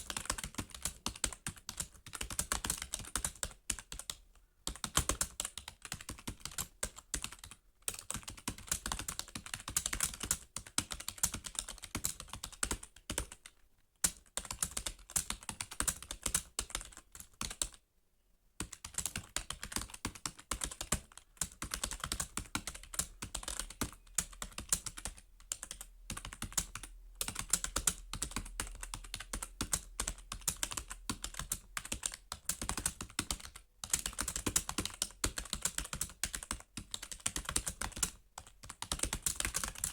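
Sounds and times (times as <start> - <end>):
fast typing on computer keyboard: 0.0 - 17.8, 18.6 - 39.9.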